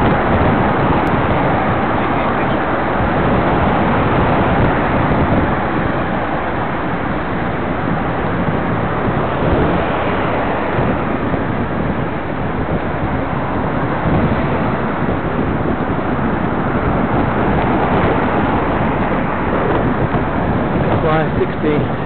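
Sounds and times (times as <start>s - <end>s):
road traffic: 0.0s - 22.0s
wind rushing on microphone: 0.0s - 22.0s.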